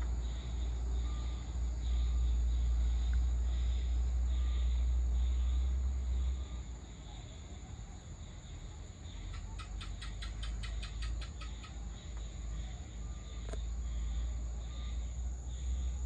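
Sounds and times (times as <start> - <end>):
crickets chirping: 0.0 - 16.0
low steady rumble: 0.0 - 16.0.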